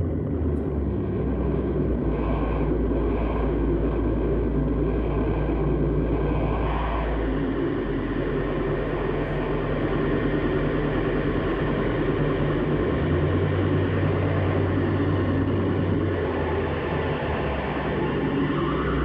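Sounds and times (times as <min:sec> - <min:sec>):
dense wash of noise: 0:00.0 - 0:19.0
low droning tones: 0:00.0 - 0:19.0.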